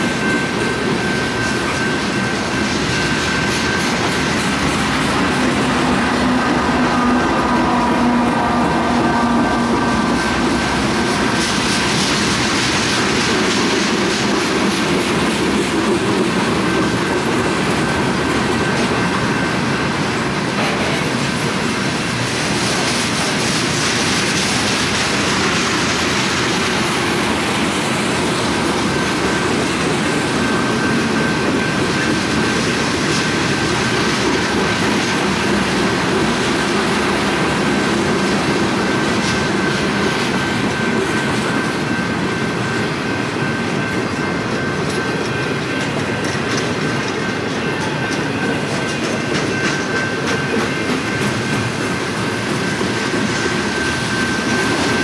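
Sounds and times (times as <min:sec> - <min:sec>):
high-pitched ring: 0:00.0 - 0:22.2, 0:24.7 - 0:55.0
train cars rolling on rails: 0:00.0 - 0:55.0.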